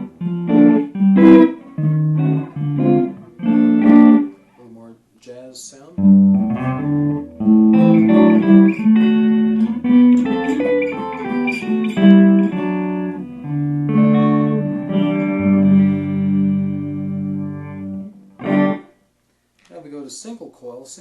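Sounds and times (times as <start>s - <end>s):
electric guitar playing jazz chords: 0.0s - 4.4s, 6.0s - 19.0s.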